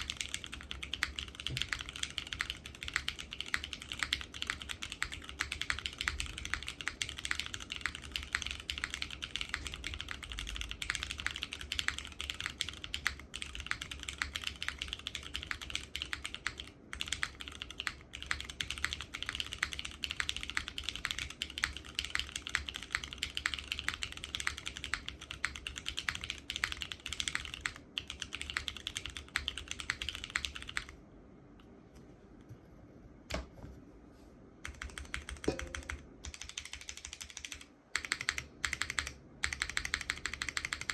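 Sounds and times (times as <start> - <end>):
mechanical keyboard typing: 0.0 - 31.0, 34.6 - 40.9.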